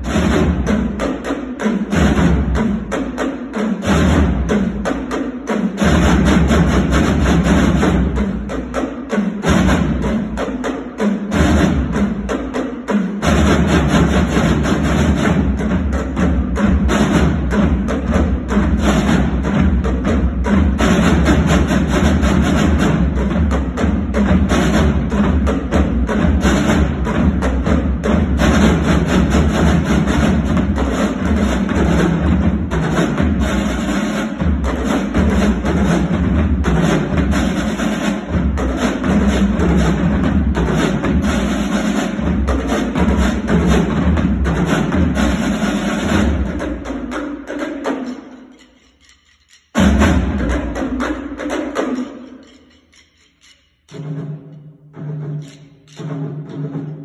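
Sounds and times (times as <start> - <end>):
marching snare drums playing cadence: 0.0 - 57.0.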